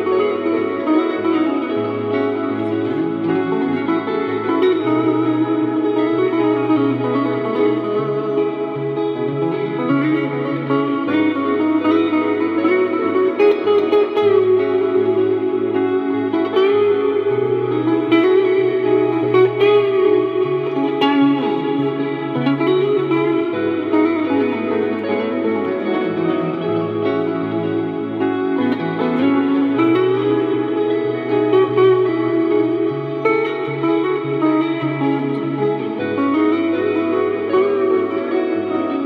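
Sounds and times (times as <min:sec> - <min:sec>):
electric guitar ambient loop: 0:00.0 - 0:39.0.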